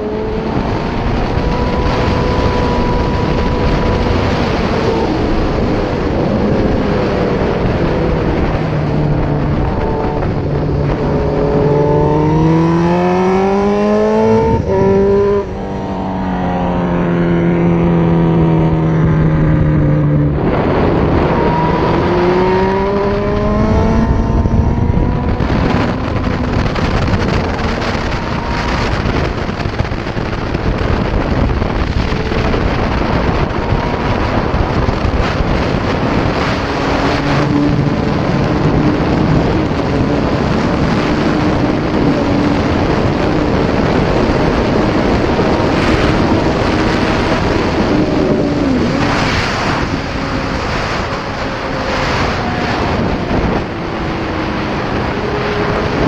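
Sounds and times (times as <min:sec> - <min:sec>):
motorcycle engine accelerating: 0:00.0 - 0:56.0
wind rush on camera: 0:00.0 - 0:56.0.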